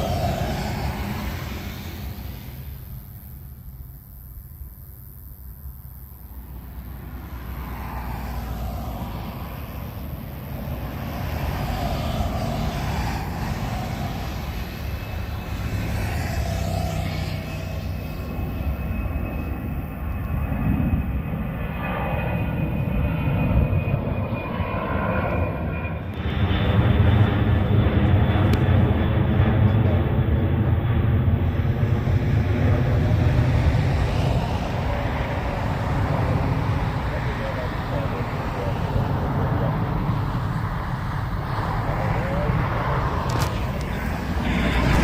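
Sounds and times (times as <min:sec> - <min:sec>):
airliner engines passing: 0:00.0 - 0:45.0
high whine: 0:00.0 - 0:45.0.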